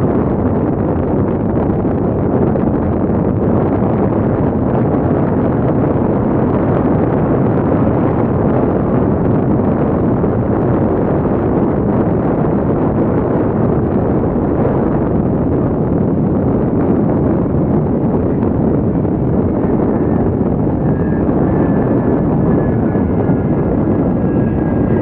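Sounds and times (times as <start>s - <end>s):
deep jet rumble overhead: 0.0s - 25.0s.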